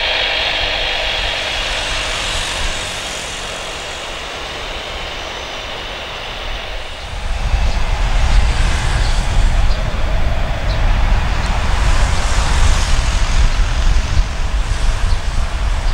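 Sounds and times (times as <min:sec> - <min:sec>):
jet engine hiss: 0:00.0 - 0:15.9
low rumble: 0:00.0 - 0:15.9.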